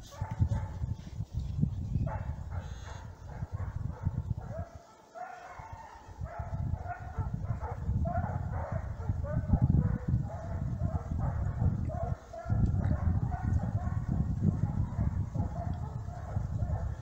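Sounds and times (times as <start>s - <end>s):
hounds baying in distance: 1.8s - 17.0s.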